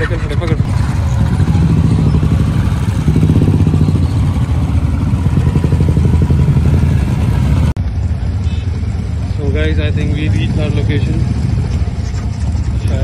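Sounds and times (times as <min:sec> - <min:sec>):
motorcycles running at low speed: 0:00.0 - 0:13.0.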